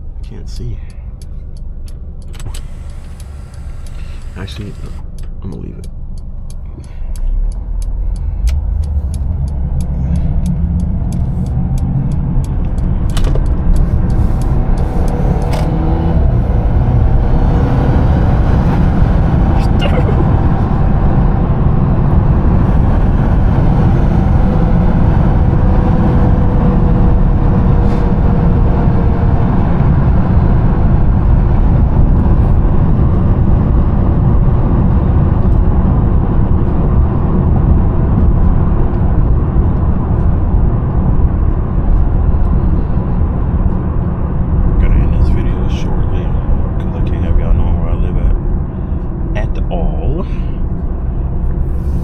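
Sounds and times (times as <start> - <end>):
car engine rumble and road noise: 0.0 - 52.0.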